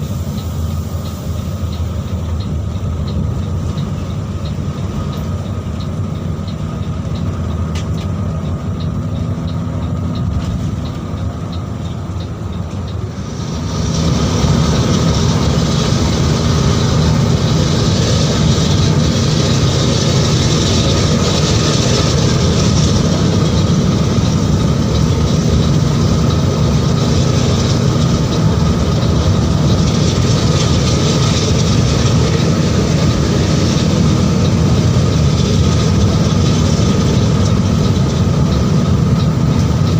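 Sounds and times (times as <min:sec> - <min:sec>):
bus engine hum: 0:00.0 - 0:39.9
road noise: 0:00.0 - 0:39.9.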